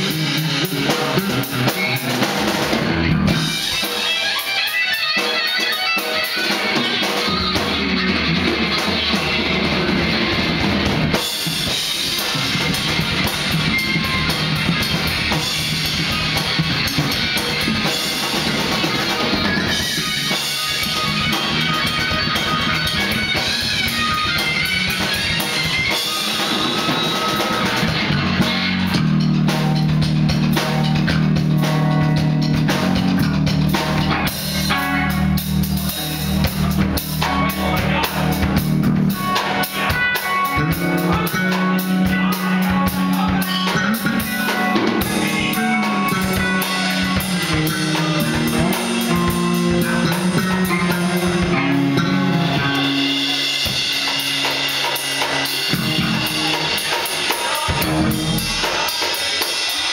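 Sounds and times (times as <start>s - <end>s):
bass guitar: 0.0s - 59.9s
drum kit: 0.0s - 59.9s
guitar: 0.0s - 59.9s.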